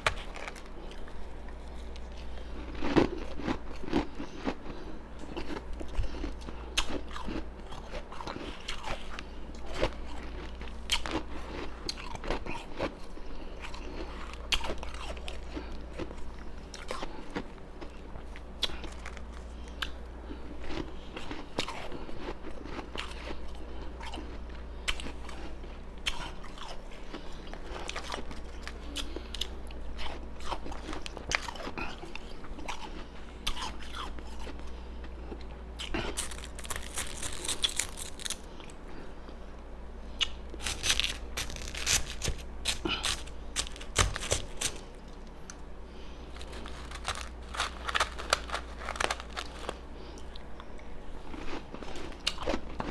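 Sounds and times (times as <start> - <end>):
chewing ice crunching: 0.0 - 34.6, 35.2 - 38.8, 40.2 - 52.9.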